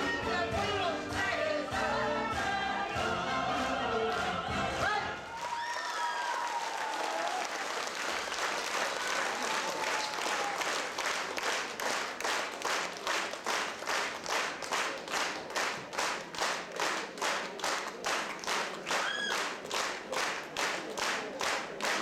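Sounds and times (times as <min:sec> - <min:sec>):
audience applauding: 0:04.1 - 0:22.0.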